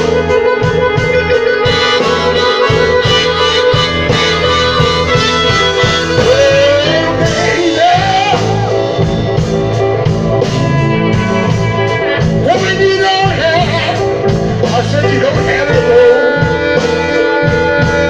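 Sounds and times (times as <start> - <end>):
blues guitar and bass: 0.0 - 18.0
harmonica lead bending notes: 0.0 - 18.0.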